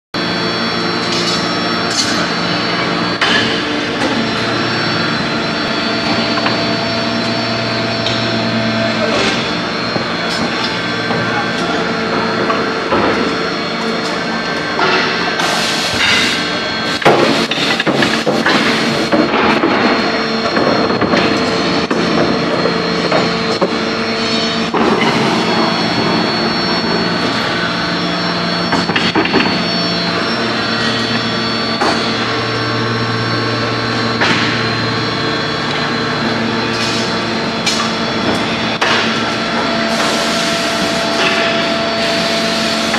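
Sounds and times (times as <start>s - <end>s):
induction heating machine drone: 0.2s - 42.9s.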